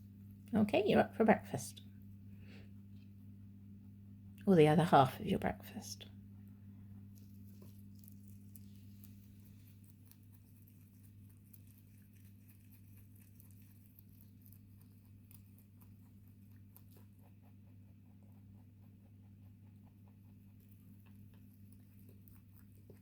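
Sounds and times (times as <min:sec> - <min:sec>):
electric fan humming: 0:00.0 - 0:23.0
rabbit chewing food: 0:00.0 - 0:23.0.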